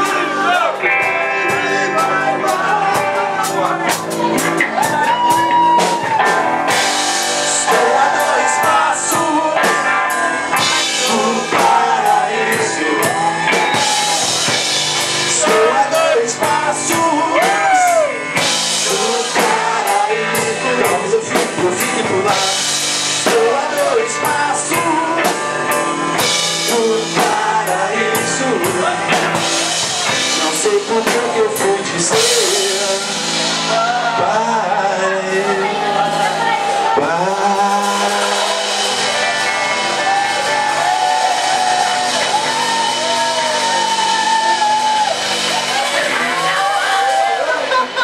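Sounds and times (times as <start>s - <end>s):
drum kit beat: 0.0s - 48.0s
melodic guitar lead line: 0.0s - 48.0s
rock band playing: 0.0s - 48.0s.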